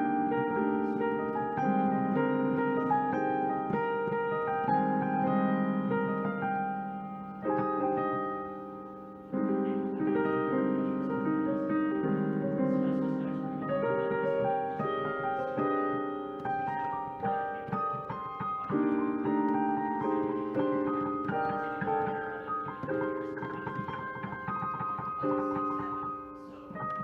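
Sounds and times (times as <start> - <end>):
slow jazz piano chords: 0.0 - 27.0.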